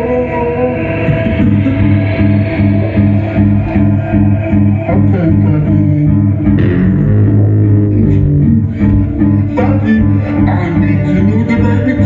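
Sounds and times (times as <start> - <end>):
live band playing amplified music: 0.0 - 12.0
pulsing bass line: 0.0 - 12.0.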